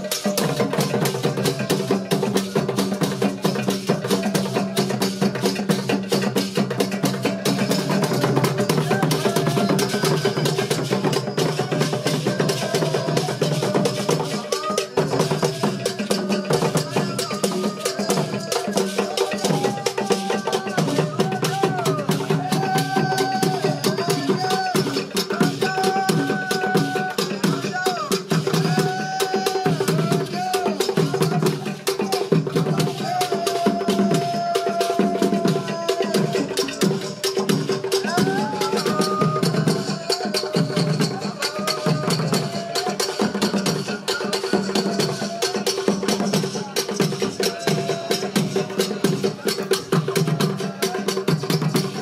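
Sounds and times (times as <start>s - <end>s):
drumming and percussion music: 0.0s - 52.0s
person singing or calling: 0.0s - 52.0s.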